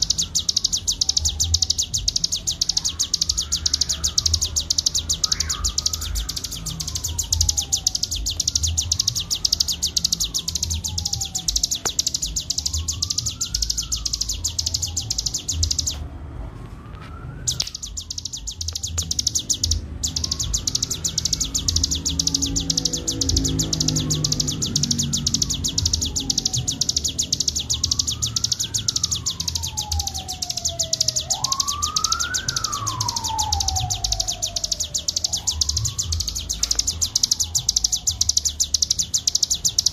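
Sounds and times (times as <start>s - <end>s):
bird singing fast chattering song: 0.0s - 16.0s, 17.5s - 39.9s
siren-like wail: 0.0s - 39.9s.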